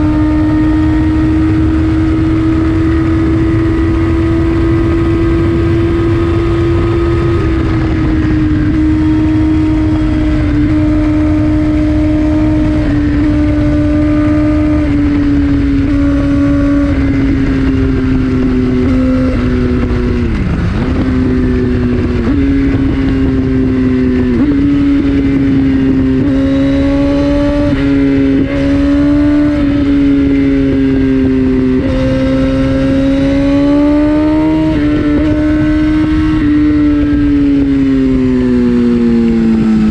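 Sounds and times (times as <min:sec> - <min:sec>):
motorcycle engine at high revs: 0:00.0 - 0:39.9
wind rush: 0:00.0 - 0:39.9.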